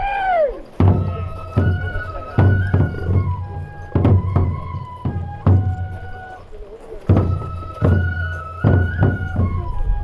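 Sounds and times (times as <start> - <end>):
bamboo flute melody: 0.0 - 10.0
heavy drum strokes: 0.8 - 10.0.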